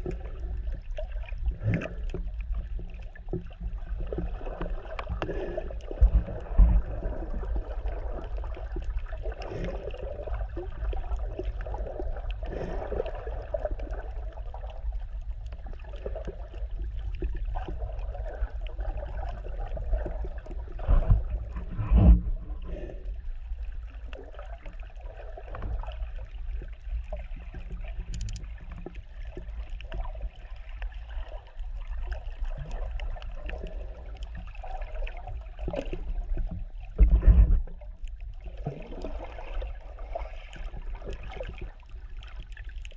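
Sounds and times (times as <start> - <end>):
muffled underwater rumble: 0.0 - 42.9
water swishing: 0.0 - 42.9.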